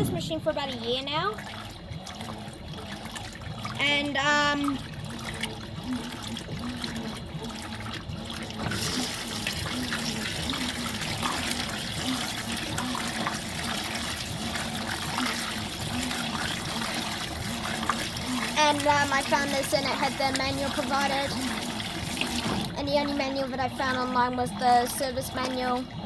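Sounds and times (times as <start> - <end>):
washing machine filling with water: 0.0 - 26.0.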